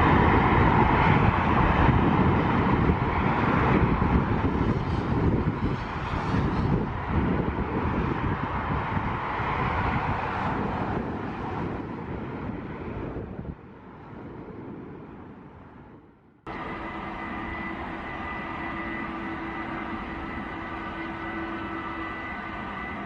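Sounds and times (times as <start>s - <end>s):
jet engine whine: 0.0s - 23.0s
jet engines rushing: 0.0s - 23.0s.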